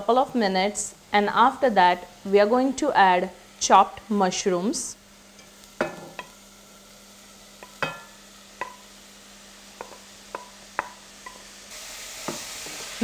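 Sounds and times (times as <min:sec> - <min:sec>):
faint sizzle of sauteing vegetables: 0:00.0 - 0:13.0.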